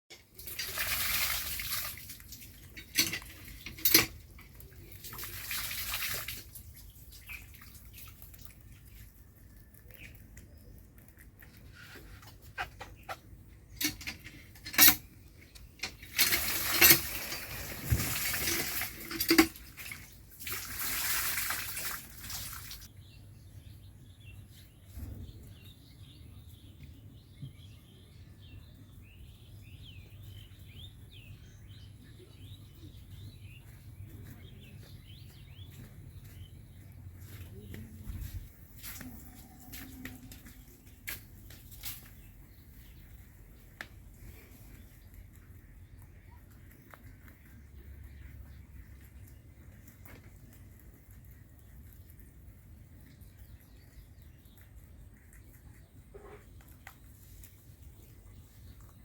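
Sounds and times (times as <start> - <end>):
rabbits chewing grass: 0.2 - 59.0.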